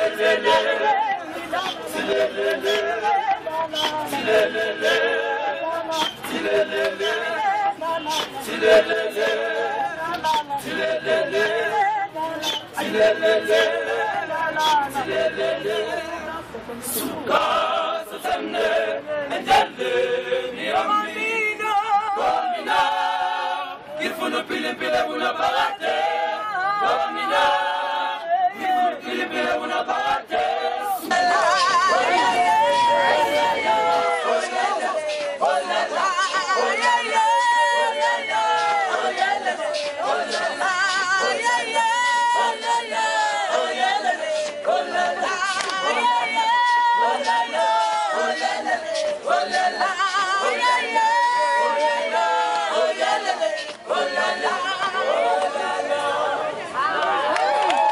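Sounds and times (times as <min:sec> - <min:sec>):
choir singing unaccompanied: 0:00.0 - 0:57.9
murmur of crowd: 0:00.0 - 0:57.9.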